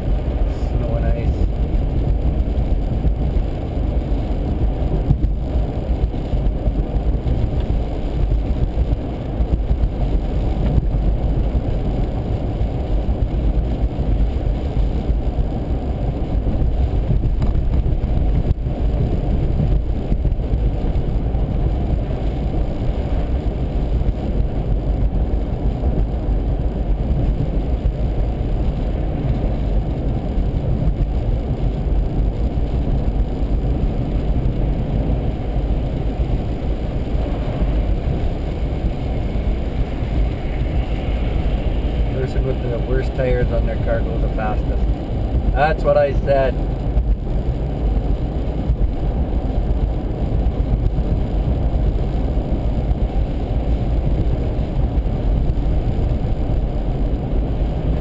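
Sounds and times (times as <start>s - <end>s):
car driving on icy street: 0.0s - 58.0s.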